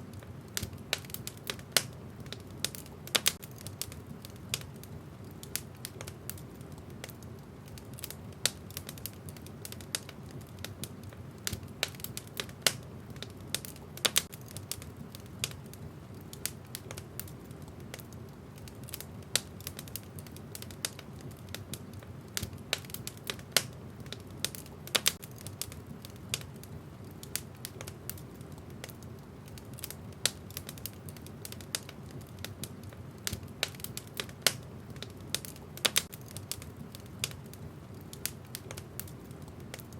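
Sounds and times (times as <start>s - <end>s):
burning logs crackling: 0.0s - 39.9s
flames rumbling: 0.0s - 39.9s.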